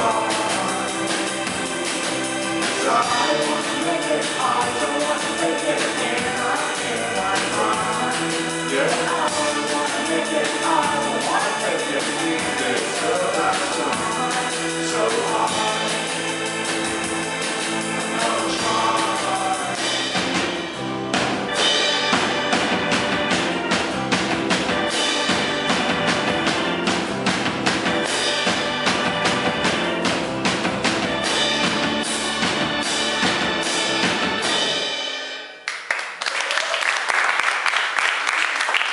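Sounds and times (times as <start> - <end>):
live band playing indie song: 0.0 - 35.4
drum kit hitting hard: 0.0 - 35.5.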